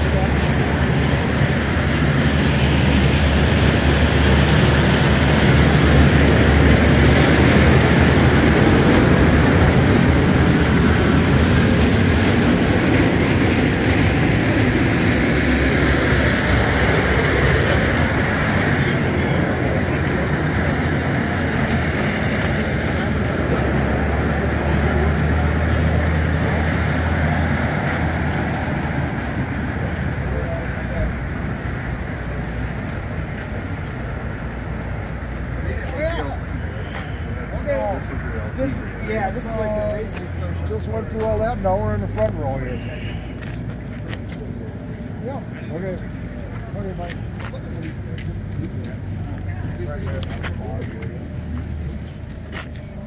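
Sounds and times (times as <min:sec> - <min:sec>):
engine drone with hiss: 0:00.0 - 0:44.9.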